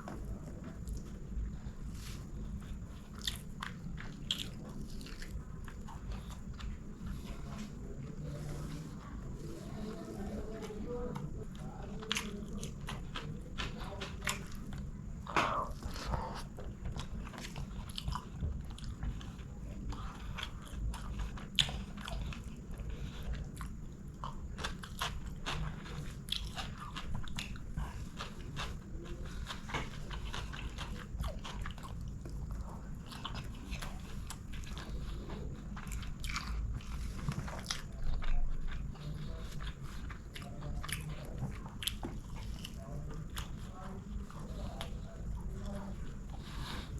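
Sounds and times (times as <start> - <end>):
close chewing and biting: 0.0 - 46.9
steady low hum: 0.0 - 46.9.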